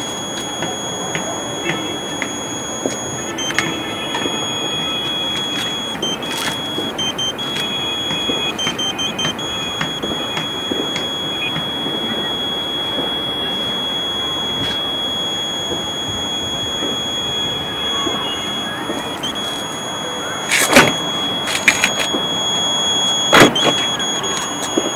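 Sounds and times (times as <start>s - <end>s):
high-pitched electronic buzzer tone: 0.0s - 24.9s
rushing background noise: 0.0s - 24.9s
scattered clicks: 0.0s - 24.9s.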